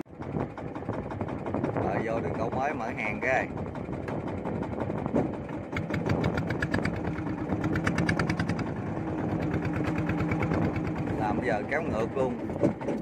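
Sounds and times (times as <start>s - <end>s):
boat engine puttering: 0.1s - 13.0s.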